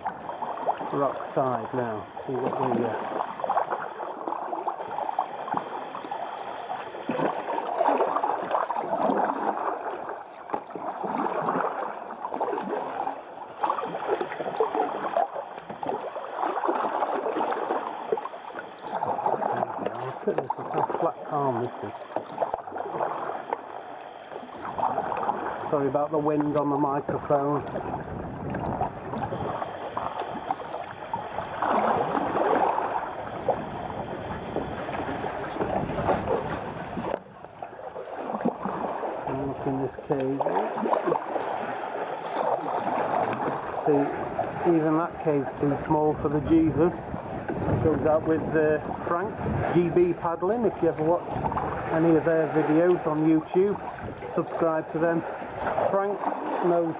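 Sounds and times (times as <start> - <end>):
kayak paddle strokes: 0.0 - 56.9
water sloshing against hull: 0.0 - 56.9.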